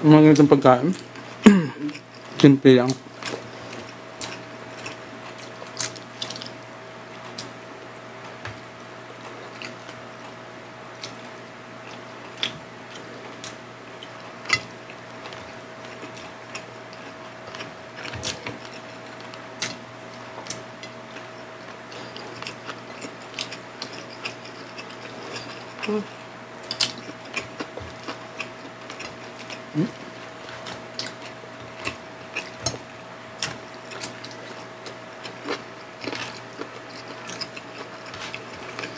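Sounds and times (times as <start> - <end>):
faint steady hum: 0.0 - 38.9
chewing and eating with hands: 0.9 - 7.6, 8.2 - 38.9.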